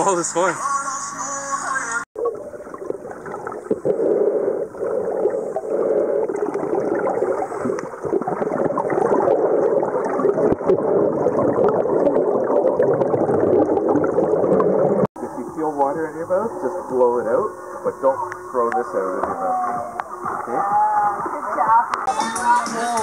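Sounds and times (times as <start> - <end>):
underwater gurgling and bubbling: 2.2 - 22.1.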